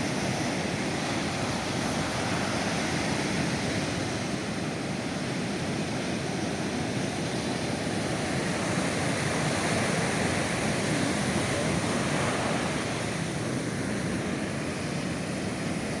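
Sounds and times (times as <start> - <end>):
sea waves washing on beach: 0.0 - 16.0.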